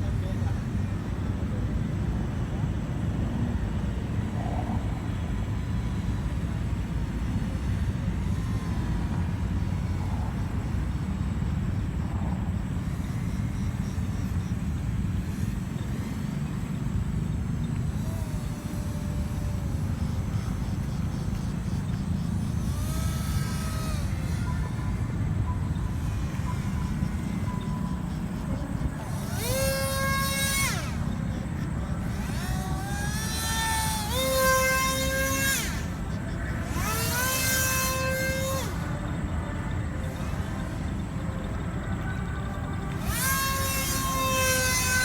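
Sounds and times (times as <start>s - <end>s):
faint propeller motor whine: 0.0s - 45.0s.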